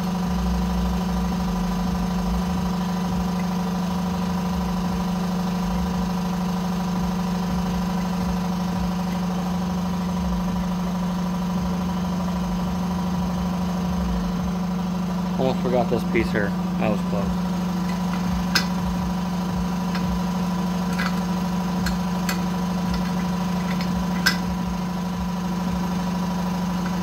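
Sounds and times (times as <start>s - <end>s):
machine humming: 0.0s - 27.0s.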